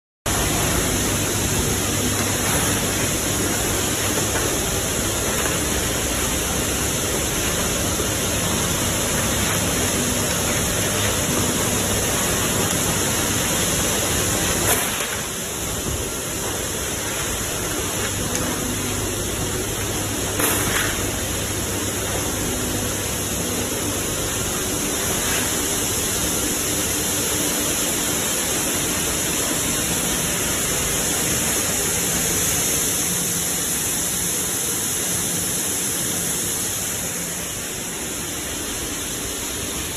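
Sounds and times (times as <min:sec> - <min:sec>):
faint low machine hum: 0:00.3 - 0:32.4.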